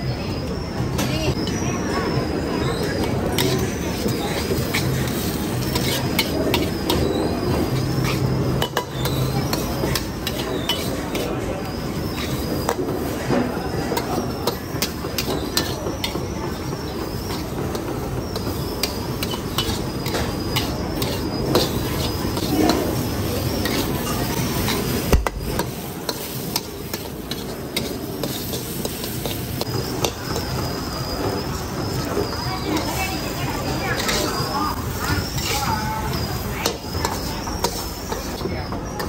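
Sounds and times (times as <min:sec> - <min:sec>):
spatula scraping a wok: 0:01.3 - 0:39.0.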